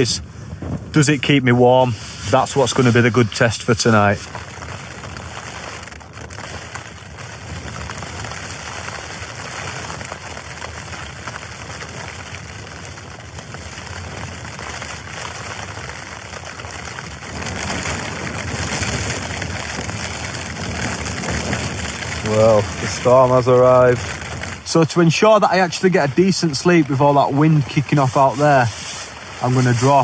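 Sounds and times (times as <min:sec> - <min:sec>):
storm wind buffeting tent fabric: 0:00.0 - 0:30.0.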